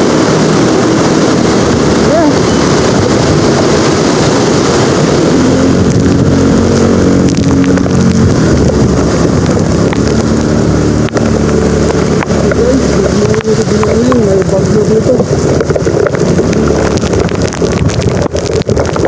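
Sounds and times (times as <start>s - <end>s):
heavy rain: 0.0s - 19.0s
wind buffeting microphone: 0.0s - 19.0s.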